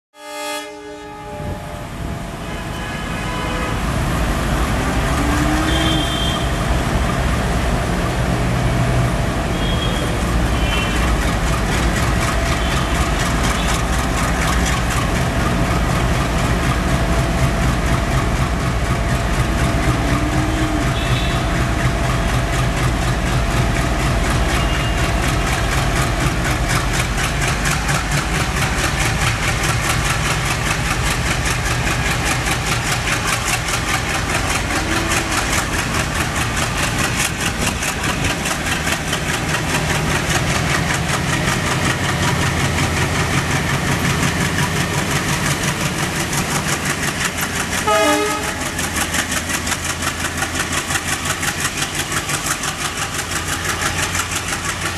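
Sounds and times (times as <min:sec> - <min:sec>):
diesel locomotive chugging: 0:00.2 - 0:54.9.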